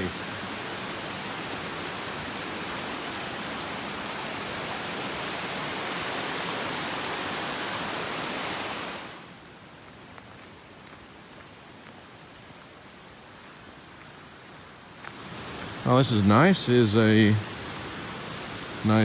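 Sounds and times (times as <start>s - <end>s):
creek water rushing: 0.0s - 9.5s, 11.1s - 19.0s.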